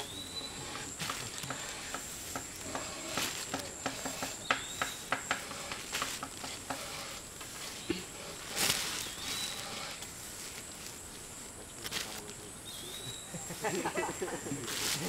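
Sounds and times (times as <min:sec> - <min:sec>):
sawdust scraping: 0:00.0 - 0:15.0.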